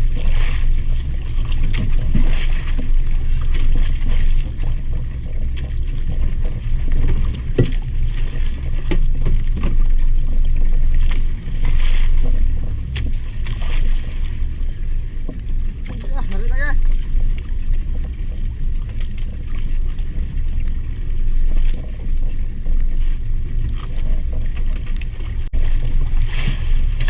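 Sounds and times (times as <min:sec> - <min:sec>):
boat engine low rumble: 0:00.0 - 0:27.0
water and wind hiss: 0:00.0 - 0:27.0.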